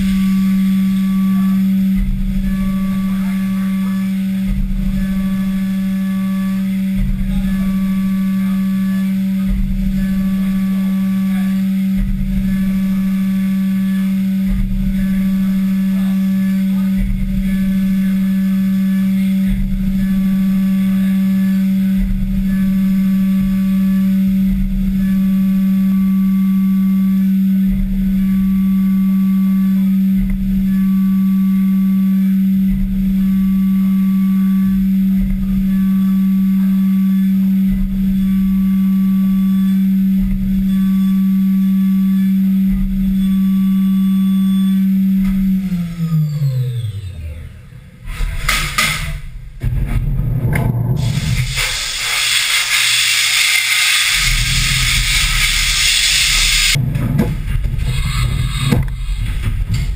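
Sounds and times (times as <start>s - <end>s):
milling machine spindle cutting metal: 0.0s - 46.1s, 51.0s - 56.8s.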